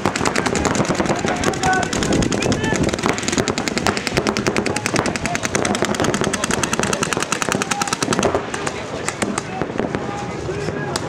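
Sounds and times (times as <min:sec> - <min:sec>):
paintball markers firing: 0:00.0 - 0:09.6.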